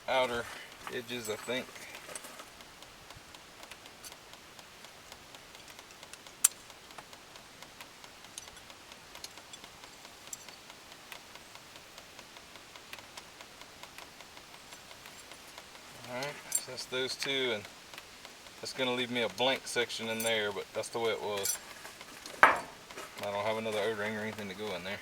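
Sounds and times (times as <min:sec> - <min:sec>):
small metal clicks: 0:00.1 - 0:25.0.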